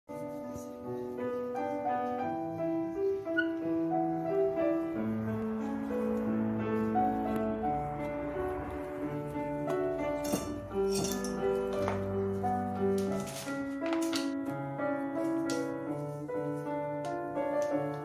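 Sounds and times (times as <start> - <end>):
instrumental background music: 0.1 - 18.0.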